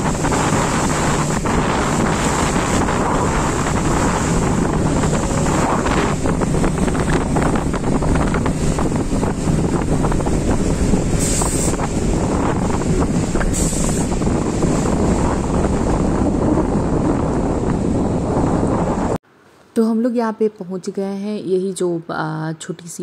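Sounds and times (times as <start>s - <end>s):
motorboat engine humming: 0.0s - 19.2s
wind buffeting microphone: 0.0s - 19.2s.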